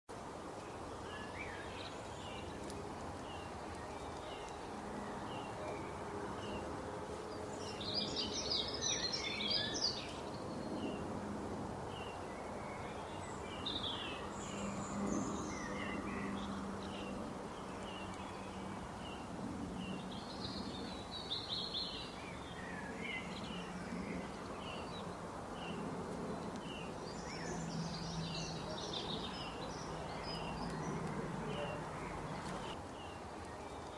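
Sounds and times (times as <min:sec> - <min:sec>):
outdoor background noise: 0:00.1 - 0:33.9.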